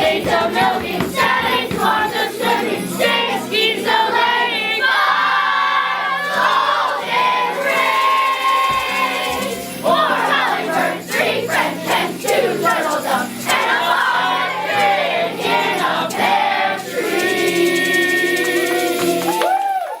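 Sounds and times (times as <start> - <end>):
children's choir singing: 0.0 - 19.4.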